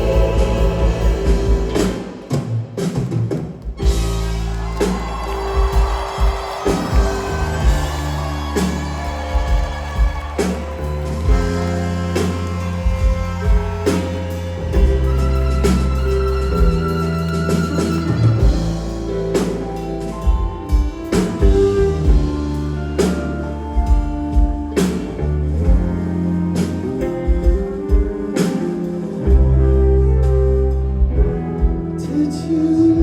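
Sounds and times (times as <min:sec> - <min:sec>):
cymbal and drum accents: 0:00.0 - 0:29.5
live rock band playing: 0:00.0 - 0:32.8.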